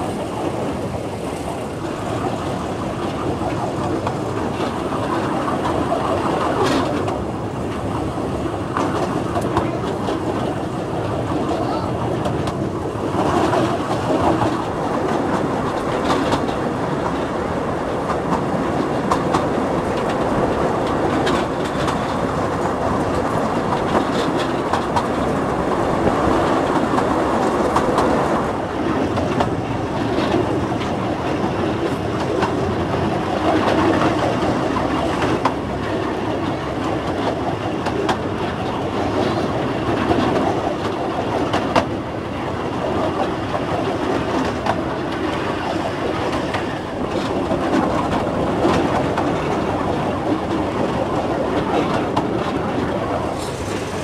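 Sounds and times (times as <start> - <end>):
diesel locomotive engine running: 0.0 - 54.0
wheels clicking over rail joints: 0.0 - 54.0.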